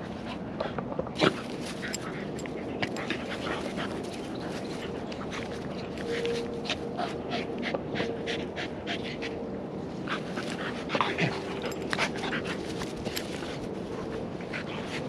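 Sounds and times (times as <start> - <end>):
dogs panting heavily: 0.0 - 15.0.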